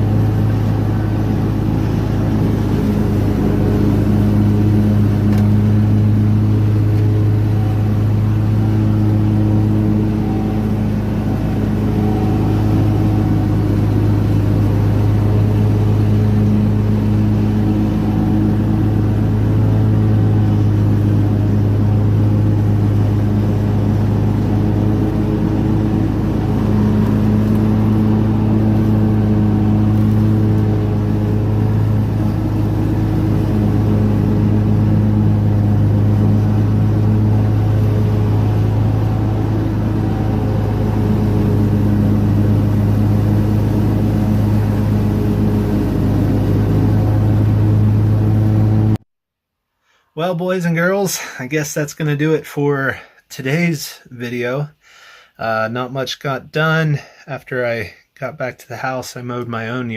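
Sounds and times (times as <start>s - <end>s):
riding lawn mower engine: 0.0s - 49.0s.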